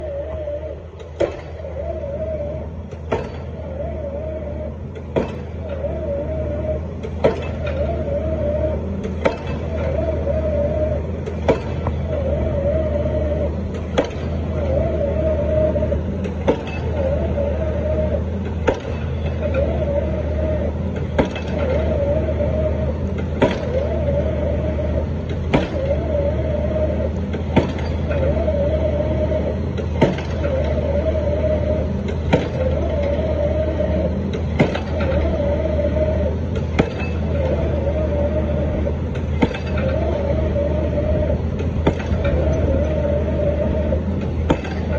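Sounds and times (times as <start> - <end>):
rig engine drone: 0.0 - 44.9
pile driver hammer blows: 0.3 - 44.9.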